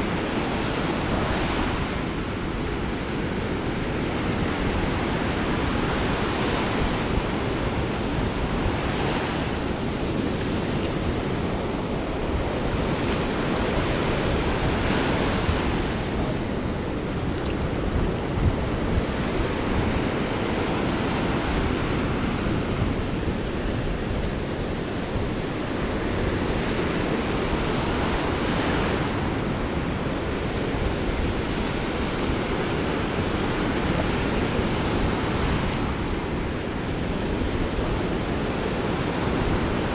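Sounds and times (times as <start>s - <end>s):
surf washing over sand: 0.0s - 39.9s
wind buffeting microphone: 0.0s - 39.9s.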